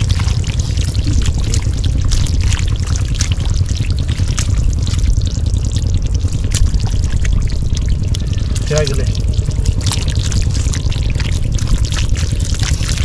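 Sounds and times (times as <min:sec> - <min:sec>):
low rumble: 0:00.0 - 0:13.0
water pouring and splashing: 0:00.0 - 0:13.0.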